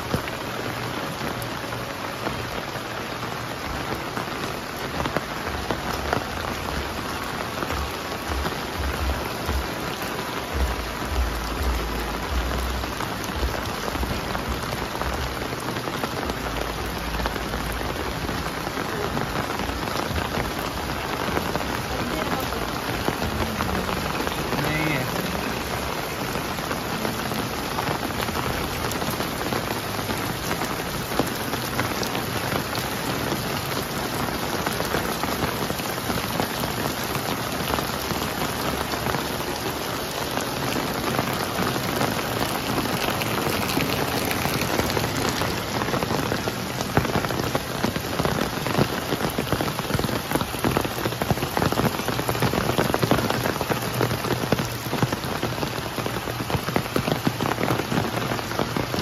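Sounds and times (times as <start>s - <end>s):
sharp individual raindrops: 0.0s - 59.0s
steady rain falling: 0.0s - 59.0s.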